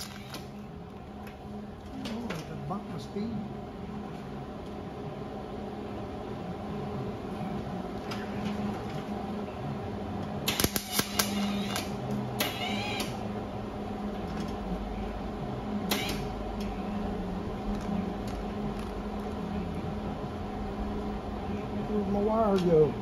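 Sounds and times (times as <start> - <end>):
steady shop hum: 0.0 - 23.0.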